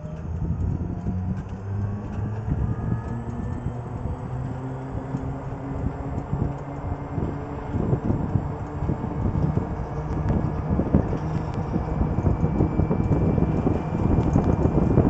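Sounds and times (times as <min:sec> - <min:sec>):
electric motor whine rising: 0:00.0 - 0:15.0
low hum: 0:00.0 - 0:15.0
wind and road noise: 0:00.0 - 0:15.0.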